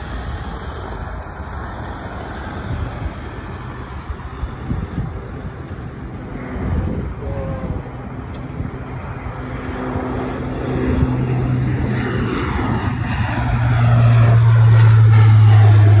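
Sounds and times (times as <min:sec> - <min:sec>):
turboprop airliner climbing: 0:00.0 - 0:16.0.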